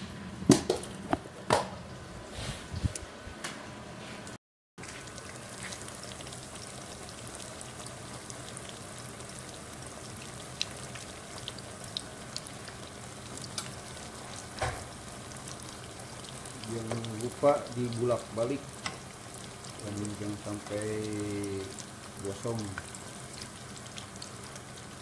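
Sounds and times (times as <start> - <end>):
food sizzling in hot oil: 4.8 - 25.0.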